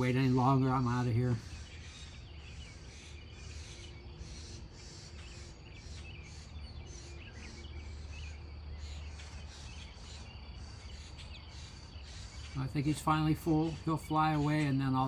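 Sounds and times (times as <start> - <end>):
insects chirring: 0.0 - 15.0
small bird chirps: 0.0 - 15.0
steady low hum: 0.0 - 15.0.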